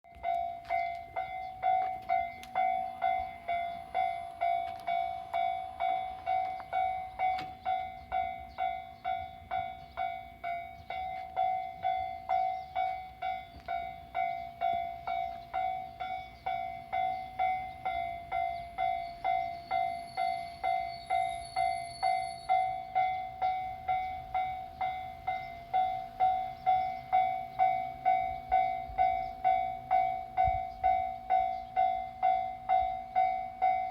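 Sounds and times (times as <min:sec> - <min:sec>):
level crossing warning bell: 0:00.0 - 0:33.9.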